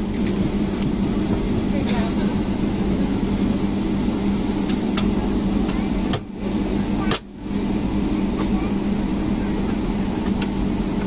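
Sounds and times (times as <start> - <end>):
jet engine drone in cabin: 0.0 - 11.0.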